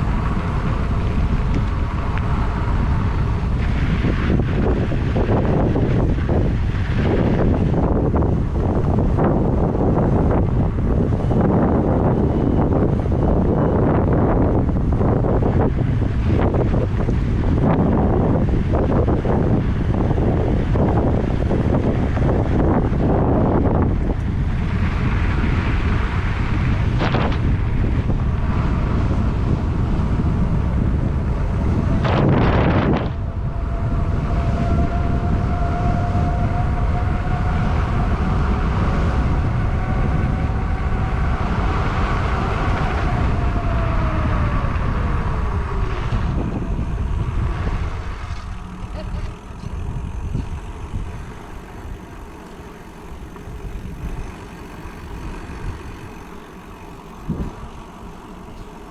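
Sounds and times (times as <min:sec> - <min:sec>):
steady whine: 0:00.0 - 0:58.9
wind rushing over microphone: 0:00.0 - 0:58.9.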